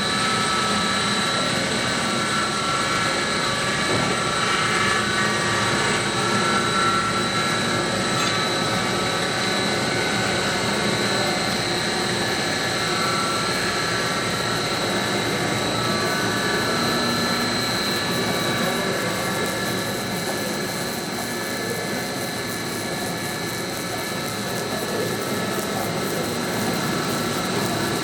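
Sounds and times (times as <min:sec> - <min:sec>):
machinery running with high whine: 0:00.0 - 0:28.0.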